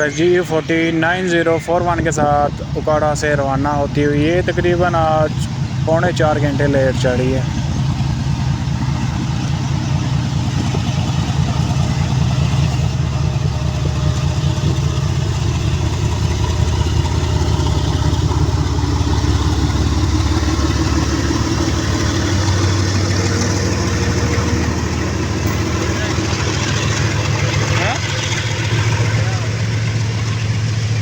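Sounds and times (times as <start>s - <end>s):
locomotive diesel engine throbbing: 0.0s - 31.0s.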